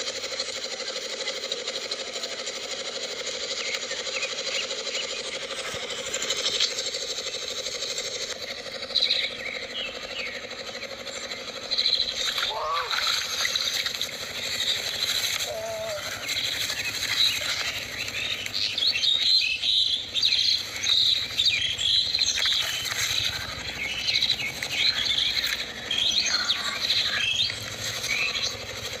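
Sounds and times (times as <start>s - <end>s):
small birds chirping: 2.6s - 29.0s.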